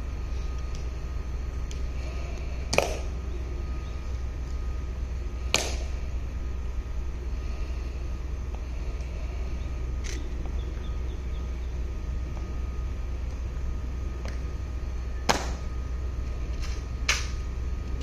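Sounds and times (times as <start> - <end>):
low rumble of wind: 0.0 - 18.0.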